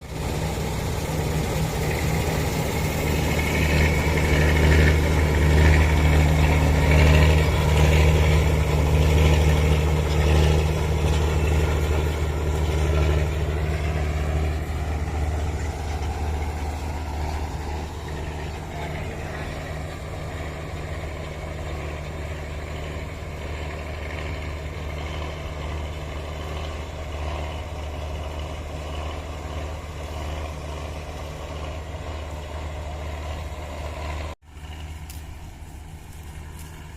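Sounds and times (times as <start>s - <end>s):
harvester engine running: 0.0s - 36.9s.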